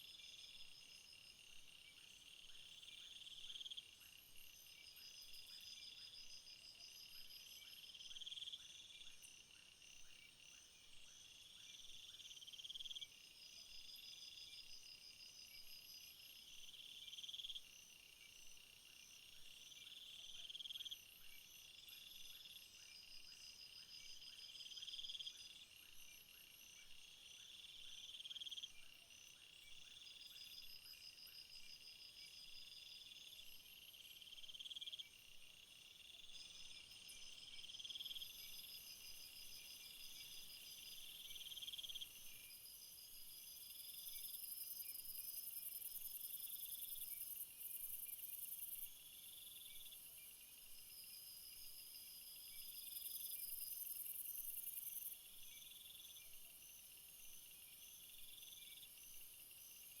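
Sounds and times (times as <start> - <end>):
rapid insect chirping: 0.0 - 60.0.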